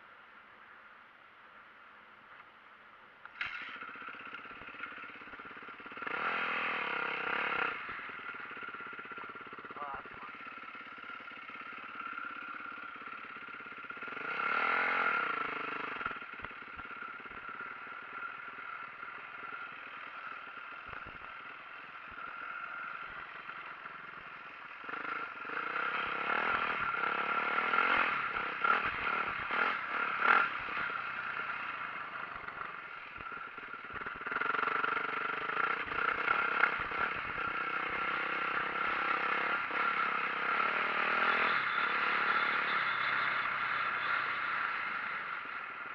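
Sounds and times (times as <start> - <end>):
dirt bike engine revving: 3.4 - 45.9.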